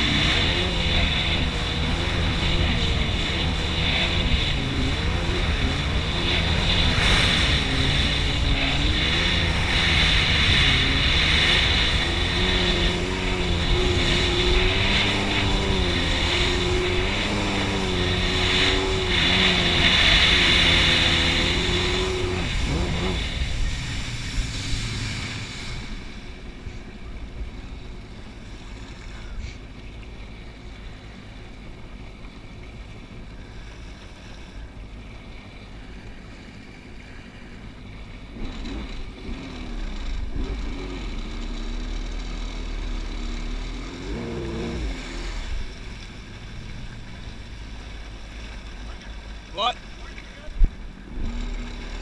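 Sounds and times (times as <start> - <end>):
personal watercraft engine: 0.0 - 52.0
water and wind rumble: 0.0 - 52.0.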